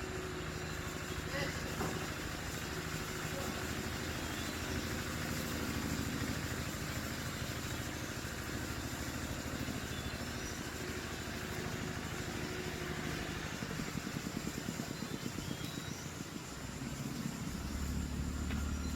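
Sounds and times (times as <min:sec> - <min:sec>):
engine running with low pulsing: 0:00.0 - 0:18.9.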